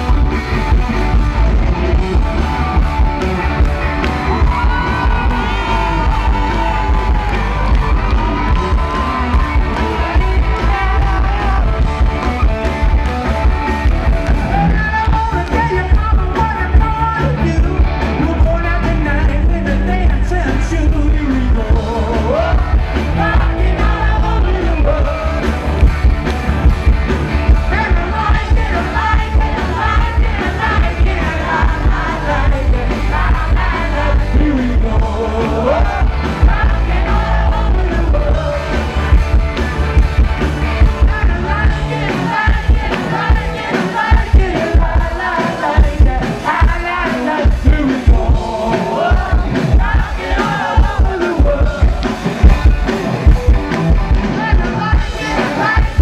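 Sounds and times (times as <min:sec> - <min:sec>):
lead singer singing: 0:00.0 - 0:26.0, 0:27.3 - 0:56.0
electric guitar: 0:00.0 - 0:56.0
live rock band playing: 0:00.0 - 0:56.0.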